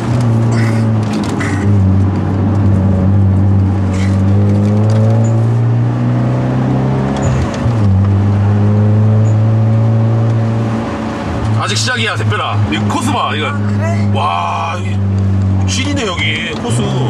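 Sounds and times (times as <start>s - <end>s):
car engine revving under load: 0.0s - 17.0s.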